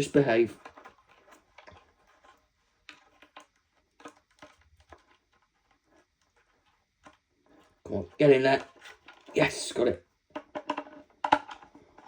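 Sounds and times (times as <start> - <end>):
faint wire clicks and scrapes: 0.0 - 12.0.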